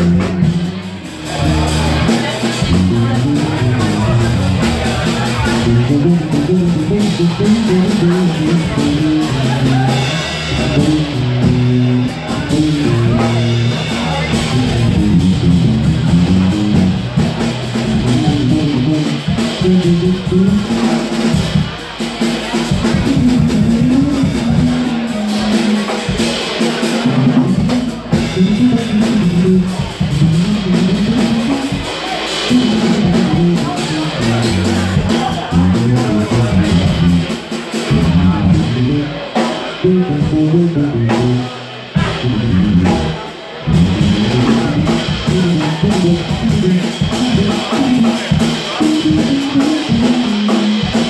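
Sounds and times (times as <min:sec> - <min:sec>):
drums and cymbals: 0:00.0 - 0:51.0
electric bass line: 0:00.0 - 0:51.0.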